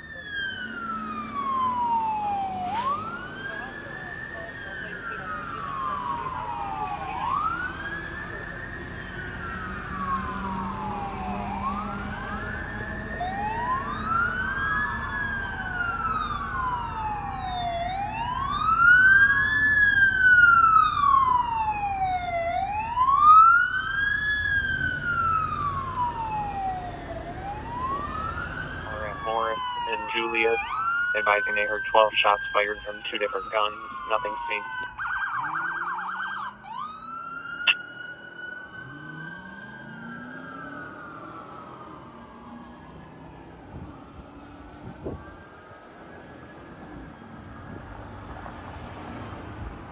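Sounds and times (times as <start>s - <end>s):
second siren wailing: 0.0s - 48.2s
fire siren wailing: 0.0s - 49.9s.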